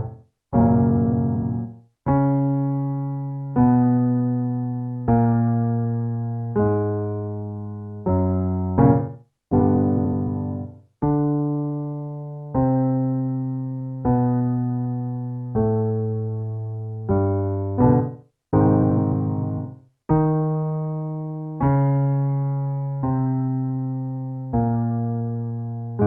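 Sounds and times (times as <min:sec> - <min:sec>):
piano accompaniment: 0:00.0 - 0:26.0.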